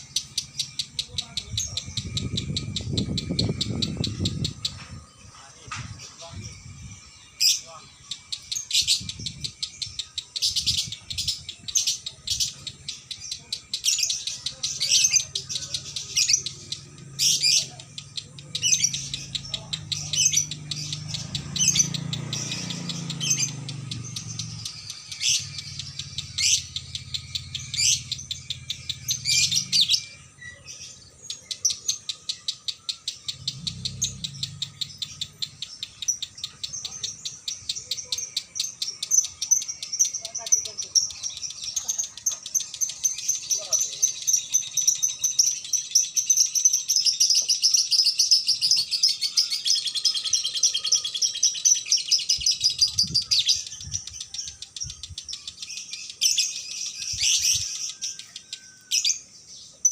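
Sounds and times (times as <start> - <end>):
lovebird chattering chirps: 0.0 - 59.9.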